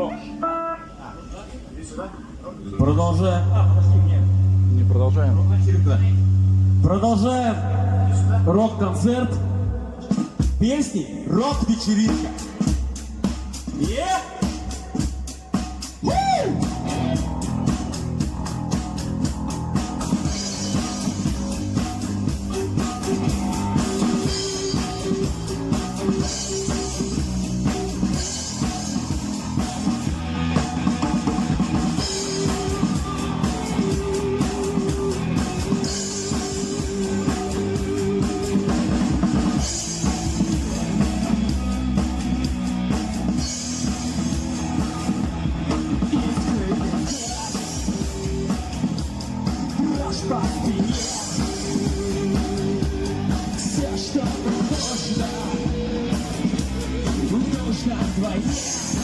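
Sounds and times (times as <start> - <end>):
rock music with drums bass guitar: 6.2 - 59.0.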